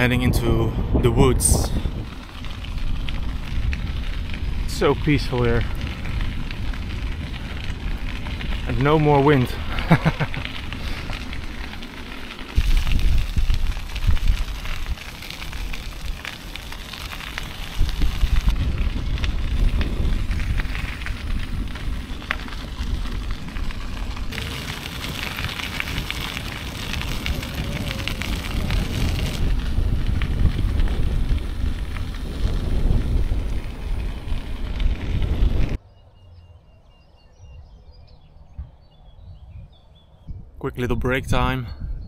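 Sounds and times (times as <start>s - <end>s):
bicycle tyres crunching on gravel: 0.0s - 35.8s
wind buffeting microphone: 0.0s - 42.0s.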